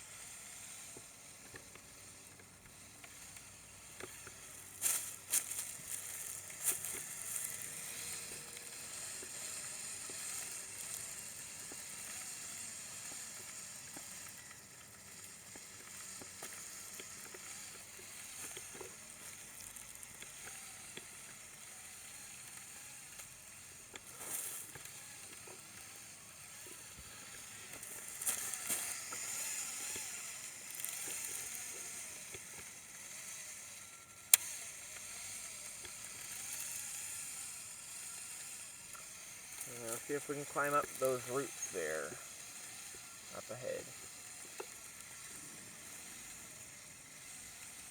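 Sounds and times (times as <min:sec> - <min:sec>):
toy motors and gears whirring: 0:00.0 - 0:47.9.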